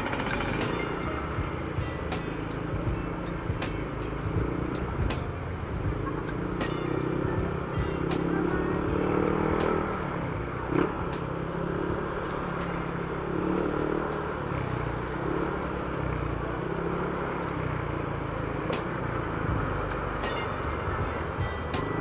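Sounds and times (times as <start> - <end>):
passing traffic: 0.0 - 22.0
scooter engine running: 0.0 - 22.0.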